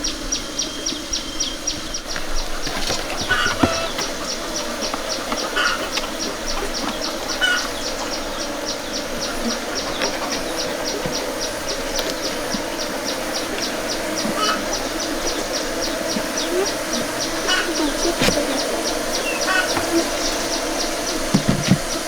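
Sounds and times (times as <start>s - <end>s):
bees buzzing: 0.0s - 22.0s
bird chirps: 0.0s - 22.0s
insect pulsing chirp: 0.0s - 22.0s.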